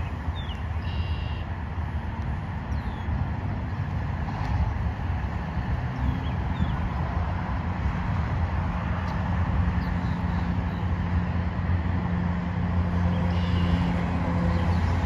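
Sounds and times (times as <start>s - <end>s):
low engine drone: 0.0s - 15.0s
passing cars and trucks rumbling: 0.0s - 15.0s.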